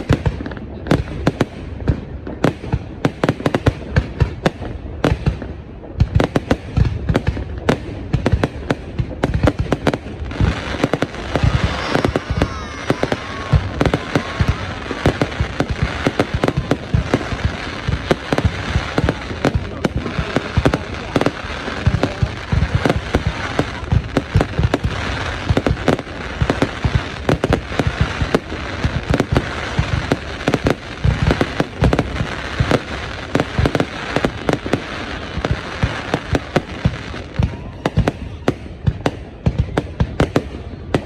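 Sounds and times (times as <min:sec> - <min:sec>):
deep fireworks booms: 0:00.0 - 0:41.0
fireworks bangs and crackles: 0:00.0 - 0:41.0.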